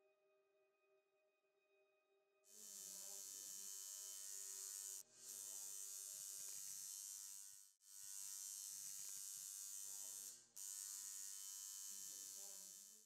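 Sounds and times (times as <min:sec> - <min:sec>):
tattoo machine buzzing: 0:02.5 - 0:13.0.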